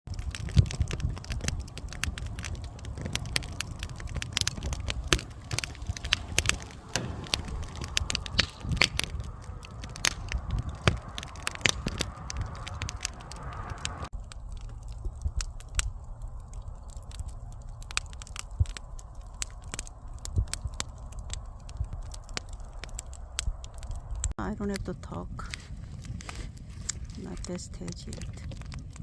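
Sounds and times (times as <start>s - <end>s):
campfire crackling and popping: 0.1s - 29.0s
fire low rumble: 0.1s - 29.0s.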